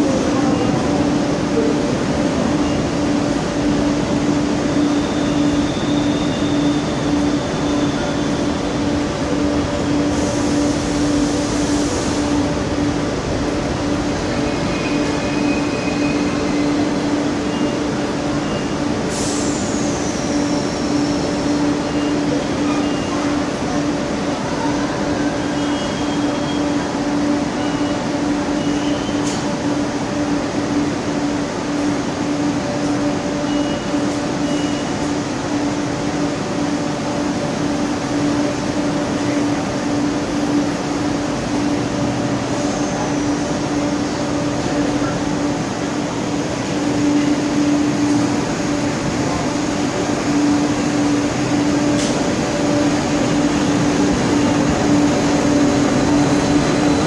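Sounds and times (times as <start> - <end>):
train rolling in: 0.0 - 57.0.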